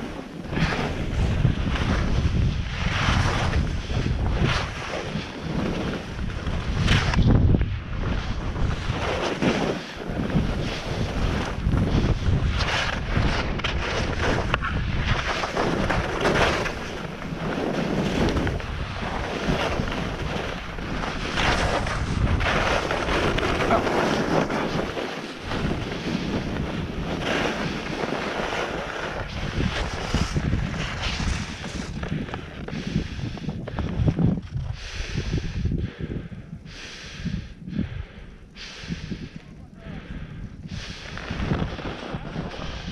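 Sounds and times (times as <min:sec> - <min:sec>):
skis scraping on snow: 0:00.0 - 0:07.3, 0:07.9 - 0:35.5, 0:40.7 - 0:42.9
wind on microphone: 0:00.0 - 0:42.9.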